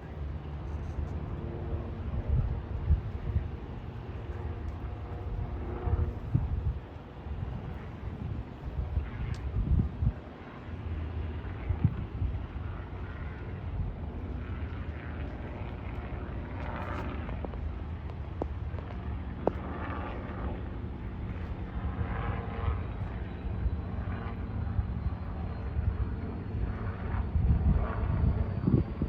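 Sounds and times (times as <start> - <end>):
helicopter rumble: 0.0 - 29.0.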